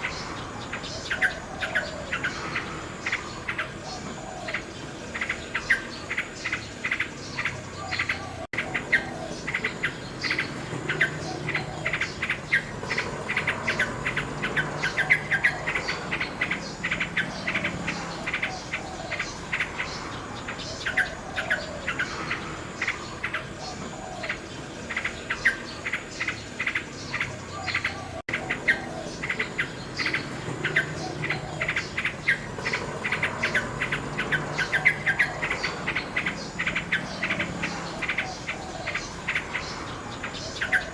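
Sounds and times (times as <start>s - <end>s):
background bird chirping: 0.0s - 40.9s
nightingale song trills: 0.0s - 40.9s.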